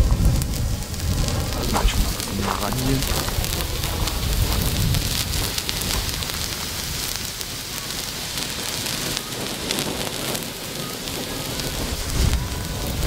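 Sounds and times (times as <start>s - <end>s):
star torch sparks fizzing: 0.0s - 13.0s.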